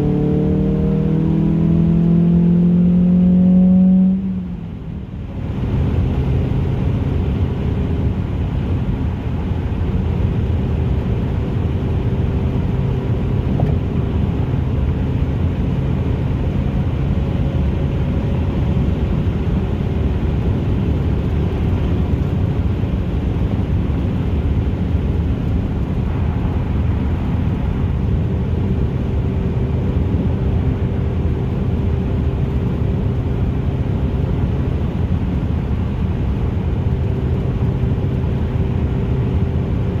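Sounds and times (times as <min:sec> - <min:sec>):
car engine droning: 0:00.0 - 0:40.0.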